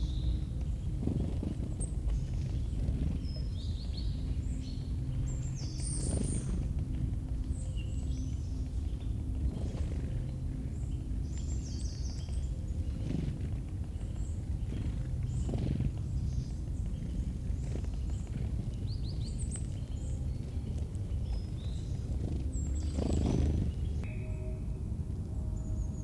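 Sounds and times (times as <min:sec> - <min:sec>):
bird chirps and trills: 0:00.0 - 0:26.0
low rumble: 0:00.0 - 0:26.0.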